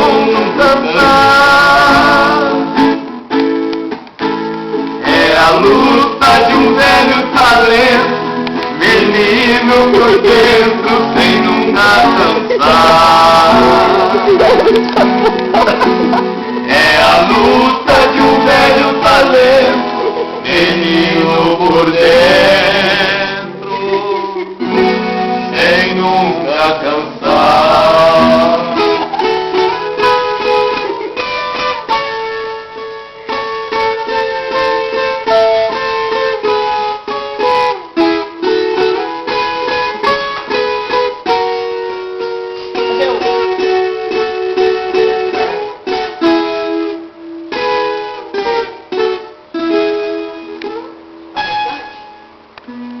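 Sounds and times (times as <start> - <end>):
acoustic plucked string instrument: 0.0 - 53.0.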